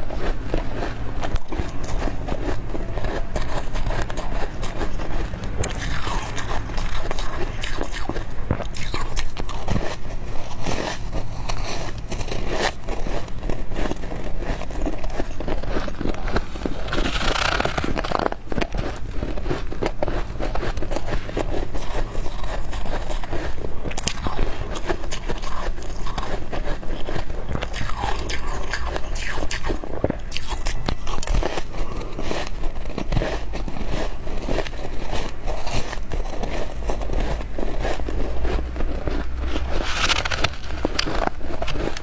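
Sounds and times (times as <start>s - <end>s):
chewing crunchy frost: 0.0s - 42.0s.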